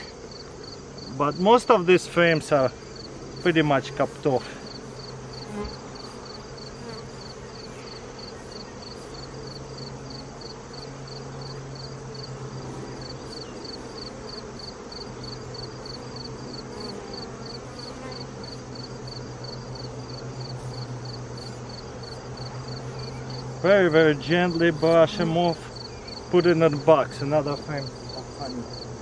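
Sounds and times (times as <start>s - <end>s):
bees buzzing: 0.0s - 29.0s
high insect chirping: 0.0s - 29.0s.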